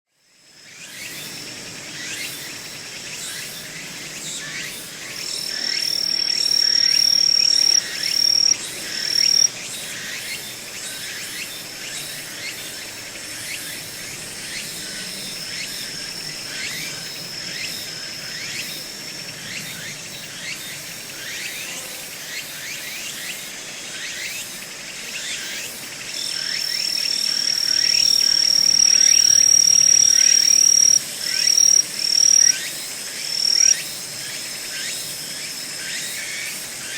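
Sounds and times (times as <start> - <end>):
insect high steady trill: 0.2 - 36.9.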